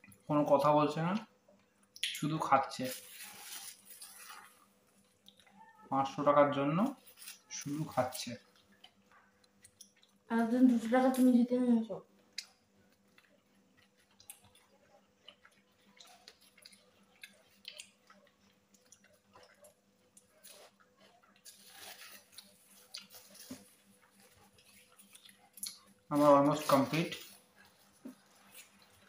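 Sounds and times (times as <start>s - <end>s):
people chewing and crunching food: 0.0s - 29.0s.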